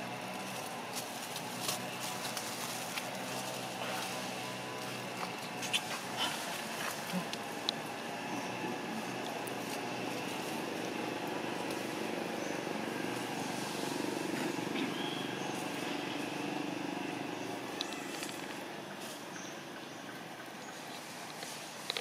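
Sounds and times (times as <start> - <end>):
distant motor vehicle hum: 0.0 - 22.0.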